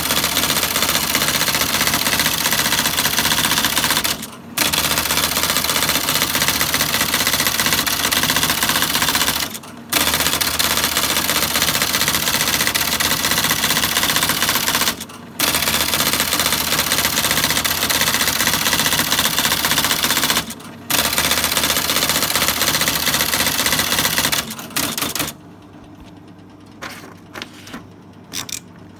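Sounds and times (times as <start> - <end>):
typewriter motor running: 0.0 - 25.4, 28.3 - 28.7
typewriter typing: 0.0 - 25.4, 26.8 - 28.7.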